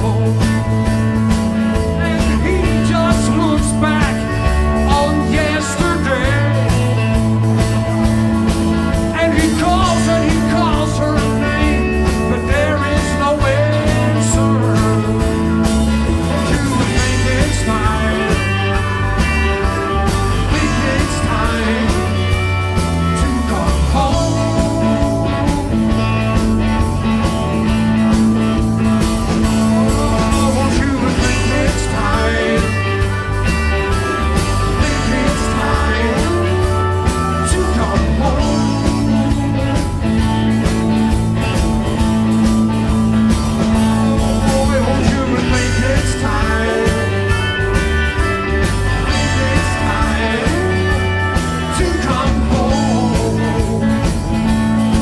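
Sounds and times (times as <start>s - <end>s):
bass guitar: 0.0s - 55.0s
drums: 0.0s - 55.0s
electric guitars: 0.0s - 55.0s.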